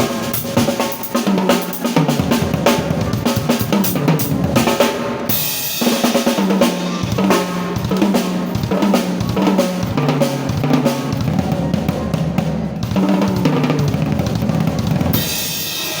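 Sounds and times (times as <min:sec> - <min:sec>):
drum kit solo: 0:00.0 - 0:16.0.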